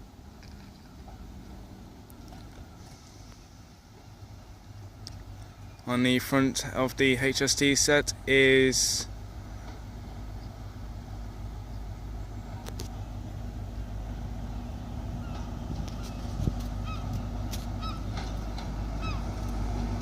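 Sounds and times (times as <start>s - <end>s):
train diesel engine rumbling: 0.0s - 20.0s.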